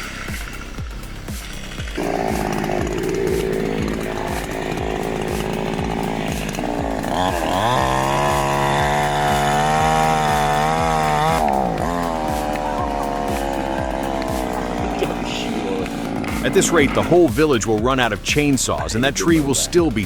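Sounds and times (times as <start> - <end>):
chainsaw revving: 0.0 - 20.0.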